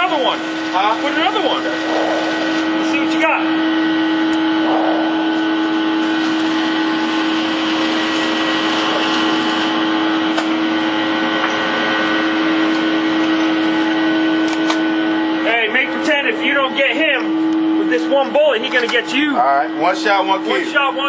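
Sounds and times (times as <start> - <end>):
ventilation machine hum: 0.0 - 21.0.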